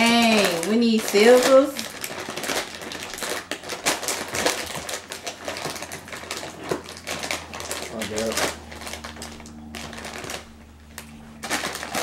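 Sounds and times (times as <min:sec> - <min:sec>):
chip bag crinkling: 0:00.0 - 0:12.0.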